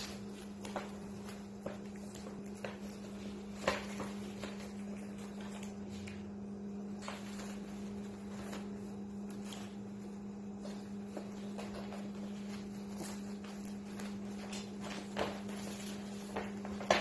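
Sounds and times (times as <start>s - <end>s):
puppies nursing clicks and rustles: 0.0s - 17.0s
steady low hum: 0.0s - 17.0s.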